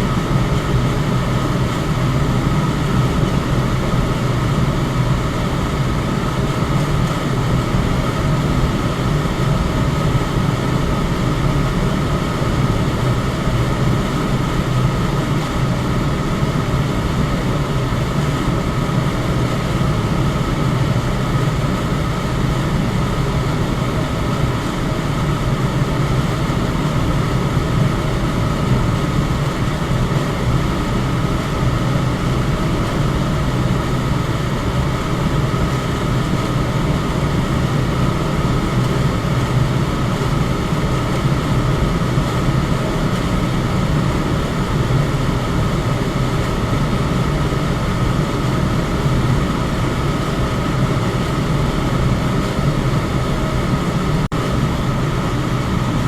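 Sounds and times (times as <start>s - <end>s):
electric fan air rush: 0.0s - 56.0s
faint steady whine: 0.0s - 56.0s.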